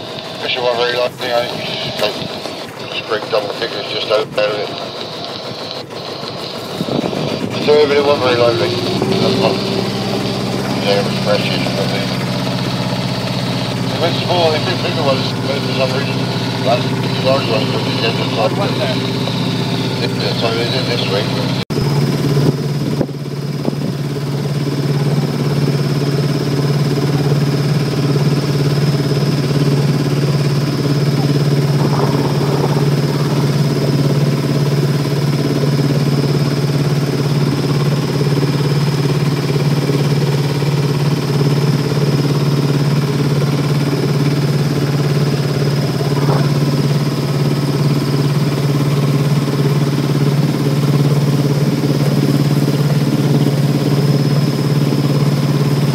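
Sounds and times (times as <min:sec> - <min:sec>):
boat engine humming: 0:00.0 - 0:55.9.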